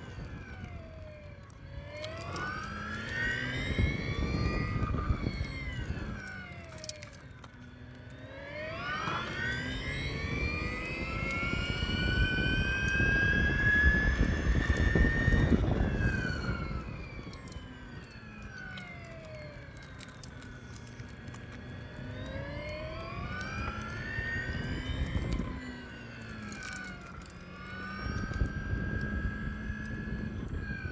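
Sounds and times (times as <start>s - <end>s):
electric scooter motor whining: 0.0s - 30.9s
road and wind rumble: 0.0s - 30.9s.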